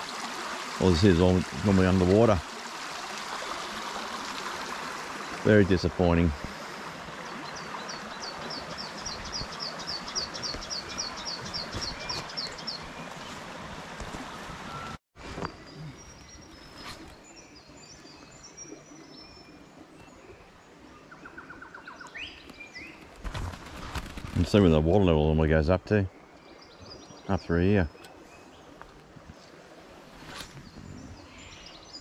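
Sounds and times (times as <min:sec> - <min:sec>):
creek water over rocks: 0:00.0 - 0:32.0.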